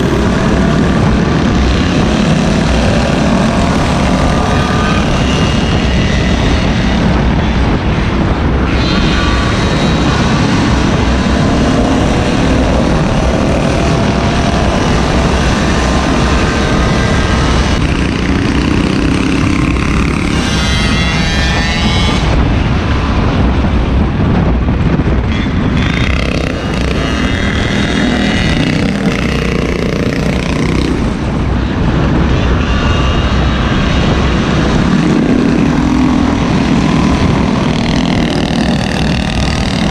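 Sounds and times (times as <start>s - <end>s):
small gasoline engines revving: 0.0s - 23.2s, 25.2s - 39.9s
heavy steady rumble: 0.0s - 39.9s.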